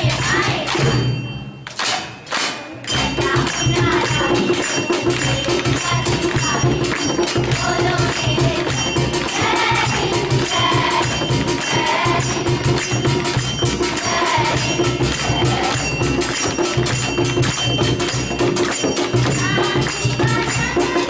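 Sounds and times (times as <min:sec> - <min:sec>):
voices singing: 0:00.0 - 0:01.1, 0:02.2 - 0:21.0
percussion beat: 0:00.0 - 0:21.0
jingling tambourine strokes: 0:02.6 - 0:21.0.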